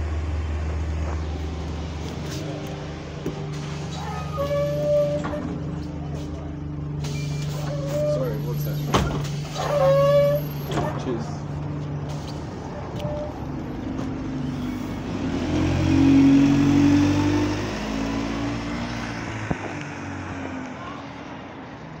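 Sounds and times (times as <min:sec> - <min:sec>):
bus engine accelerating: 0:00.0 - 0:22.0.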